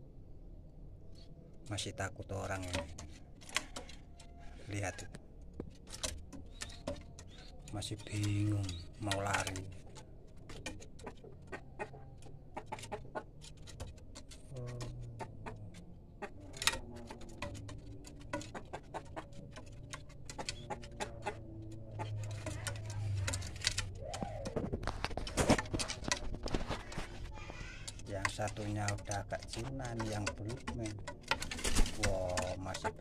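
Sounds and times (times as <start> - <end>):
rooster feet tapping on bamboo: 2.3 - 33.0
wing flutters: 2.3 - 33.0.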